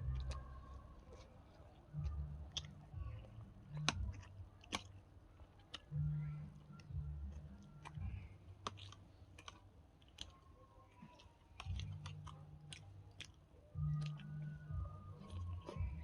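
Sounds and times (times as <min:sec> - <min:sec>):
wet mouth clicks: 0:00.0 - 0:10.4, 0:11.0 - 0:16.0
close-miked chewing: 0:00.0 - 0:16.0.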